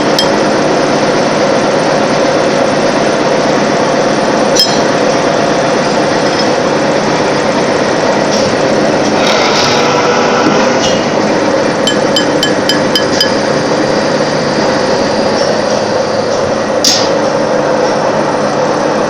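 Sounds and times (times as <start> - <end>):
thread-rolling machine running: 0.0 - 19.0.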